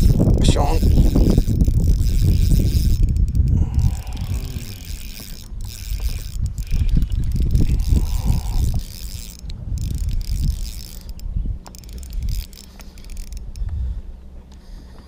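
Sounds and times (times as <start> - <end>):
fishing reel whirring: 0.0 - 13.9.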